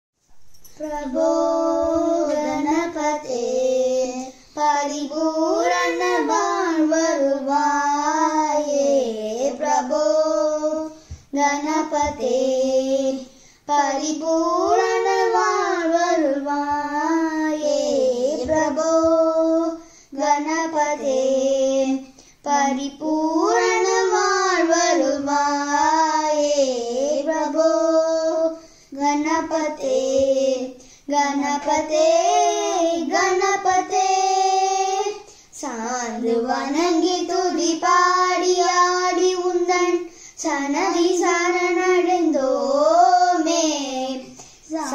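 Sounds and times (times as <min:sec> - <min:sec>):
child singing unaccompanied: 0:00.6 - 0:44.9.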